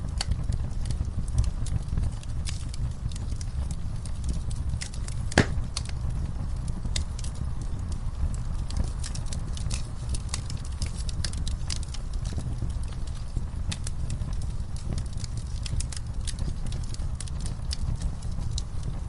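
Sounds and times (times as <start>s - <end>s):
low steady rumble: 0.0s - 19.0s
sharp pops of fire: 0.0s - 19.0s
wood fire crackling: 0.0s - 19.0s.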